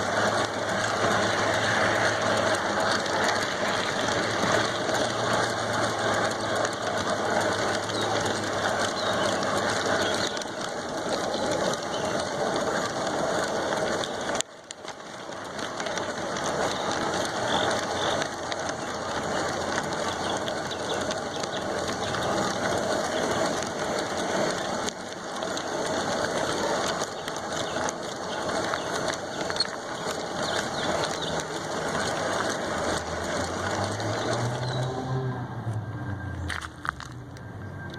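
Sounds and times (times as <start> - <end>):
model train whirring and rattling: 0.0 - 37.9.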